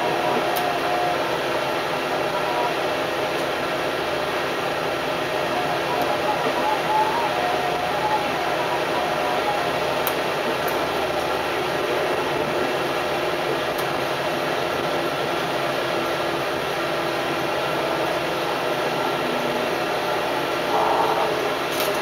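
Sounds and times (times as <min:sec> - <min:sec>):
railcar cabin hum and rumble: 0:00.0 - 0:22.0.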